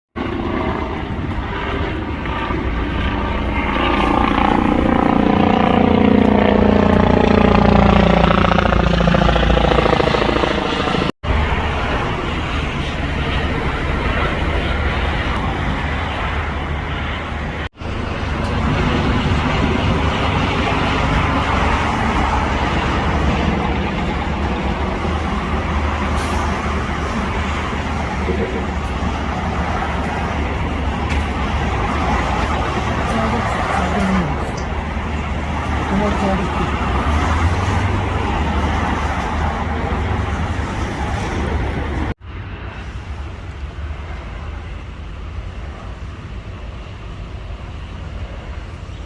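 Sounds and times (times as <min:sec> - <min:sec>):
helicopter passing overhead: 0:00.2 - 0:49.0
steady rushing noise: 0:00.2 - 0:49.0.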